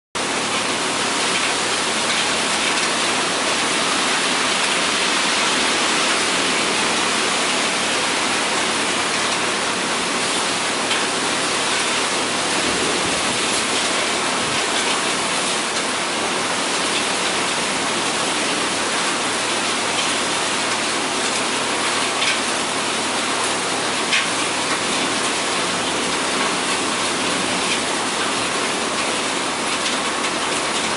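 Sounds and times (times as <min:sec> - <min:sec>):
heavy rain on lawn: 0:00.2 - 0:30.9.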